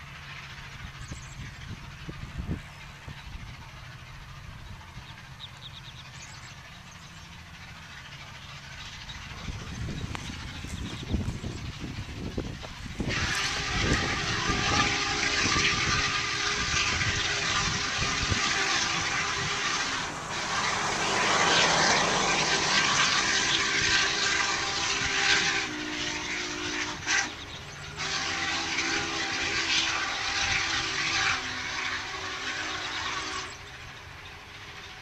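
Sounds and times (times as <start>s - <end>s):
distant steam train rushing: 0.0s - 35.0s.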